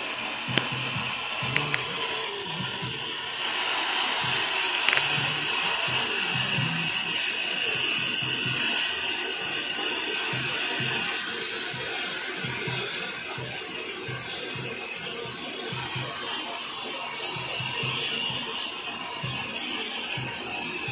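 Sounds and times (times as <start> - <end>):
cutting torch hissing: 0.0 - 20.9.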